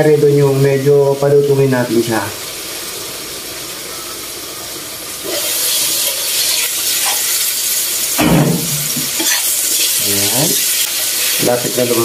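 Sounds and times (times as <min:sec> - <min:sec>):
squash sizzling in oil: 0:00.2 - 0:12.0.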